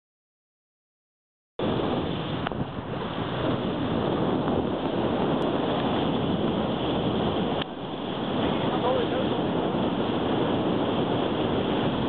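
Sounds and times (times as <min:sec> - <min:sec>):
bow wave splashing through sea: 0:01.6 - 0:12.0
wind buffeting microphone: 0:01.6 - 0:12.0.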